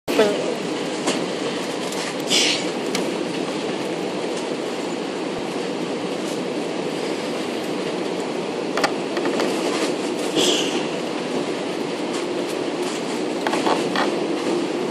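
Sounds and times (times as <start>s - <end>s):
airplane cabin engine noise: 0.1s - 14.9s.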